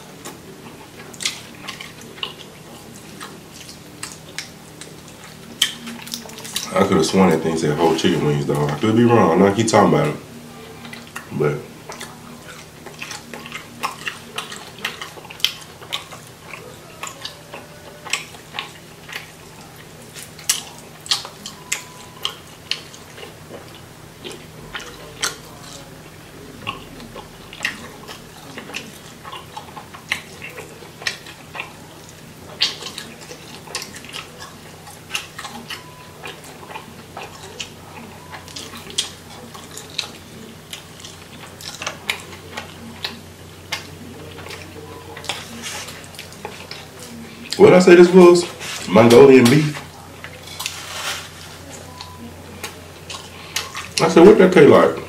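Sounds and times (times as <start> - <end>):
mouth sounds of eating: 0.0 - 55.0.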